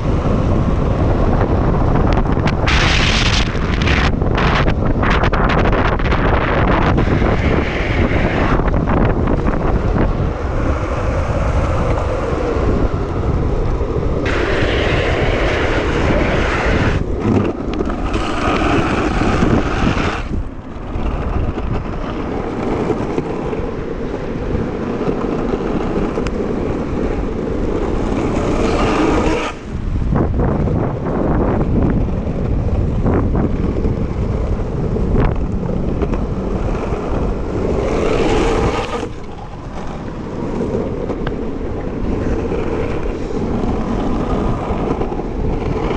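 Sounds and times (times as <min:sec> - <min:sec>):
longboard wheels rolling on asphalt: 0:00.0 - 0:45.9
wind rushing over microphone: 0:00.0 - 0:45.9.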